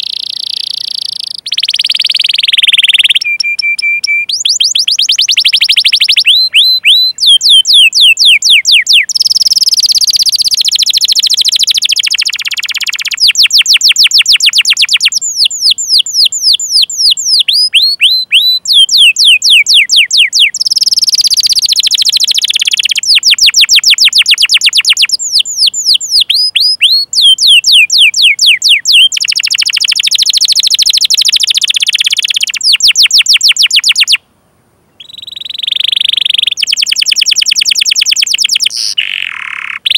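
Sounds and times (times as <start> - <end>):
canary singing: 0.0 - 34.2, 34.9 - 39.9.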